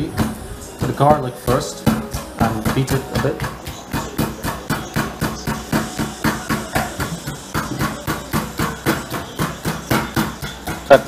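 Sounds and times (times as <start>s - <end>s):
pestle pounding in a mortar: 0.0s - 11.0s.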